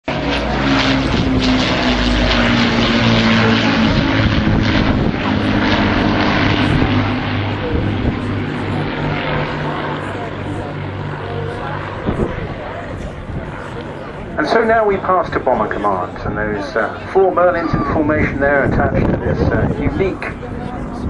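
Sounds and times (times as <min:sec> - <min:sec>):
aircraft piston engines droning: 0:00.1 - 0:21.0.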